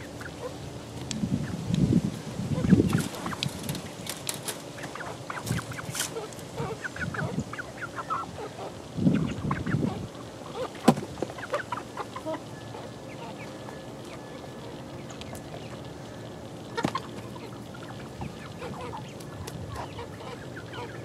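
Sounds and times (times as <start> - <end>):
chickens peeping and clucking: 0.0 - 21.0.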